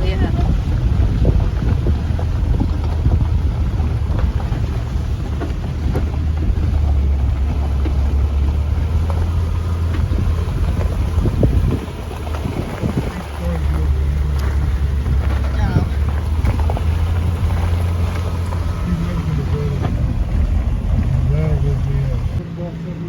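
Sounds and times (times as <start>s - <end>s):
wind buffeting microphone: 0.0s - 22.4s
vehicle engine and road rumble: 0.0s - 23.0s.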